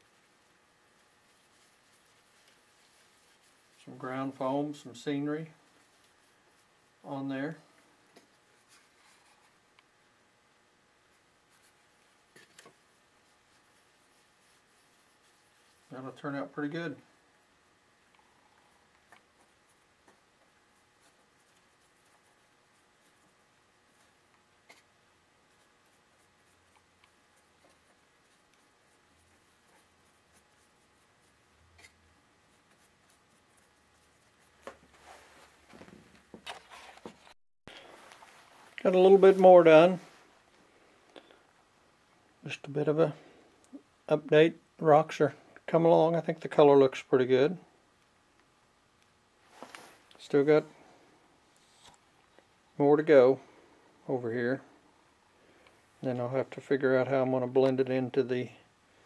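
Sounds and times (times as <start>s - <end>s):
faint handling rustle: 0.0s - 10.0s, 11.0s - 41.5s, 49.4s - 59.0s.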